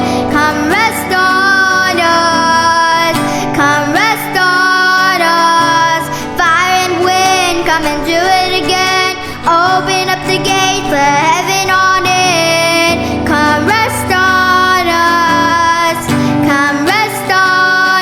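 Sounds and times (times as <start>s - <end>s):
person singing sliding notes: 0.0s - 18.0s.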